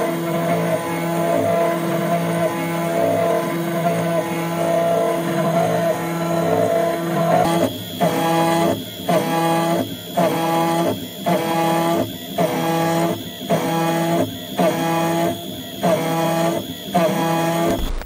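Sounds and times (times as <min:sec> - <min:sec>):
cnc mill cutting whine: 0:00.0 - 0:18.0.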